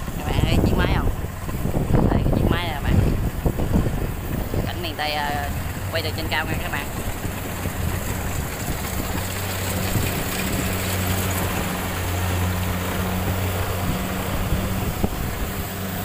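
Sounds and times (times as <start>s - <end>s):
combine harvester engine droning: 0.0s - 16.0s
constant rushing noise: 0.0s - 16.0s.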